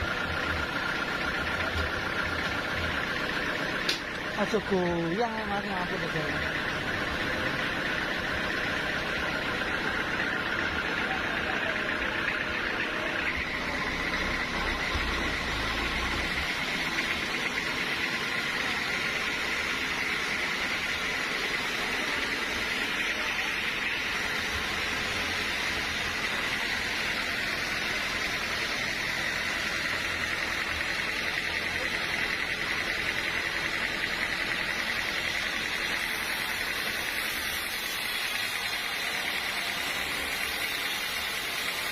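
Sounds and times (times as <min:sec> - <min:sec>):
sawmill machinery whining: 0:00.0 - 0:41.9.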